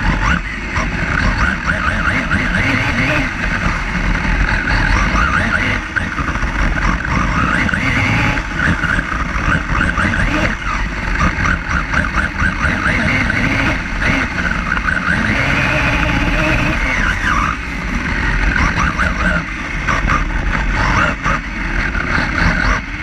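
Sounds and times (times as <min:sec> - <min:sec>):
toy car motor whine: 0:00.0 - 0:22.8
vibration rumble: 0:00.0 - 0:23.0.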